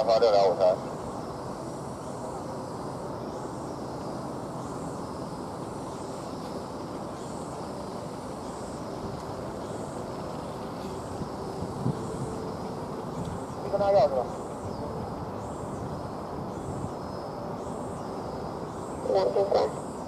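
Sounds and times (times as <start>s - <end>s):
distant jet engines idling: 0.0s - 20.0s.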